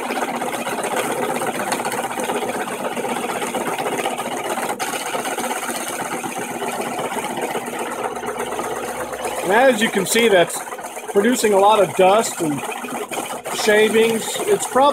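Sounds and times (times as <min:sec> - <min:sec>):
drill press boring through wood: 0:00.0 - 0:14.9.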